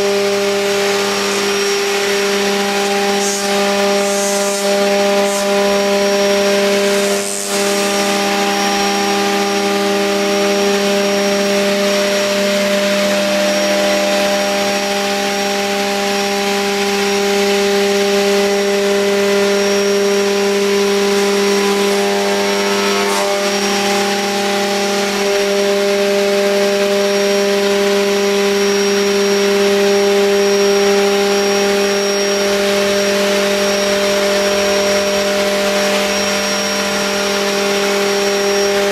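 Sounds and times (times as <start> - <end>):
cutter cutting noise: 0.0 - 38.9
router spindle whine: 0.0 - 38.9.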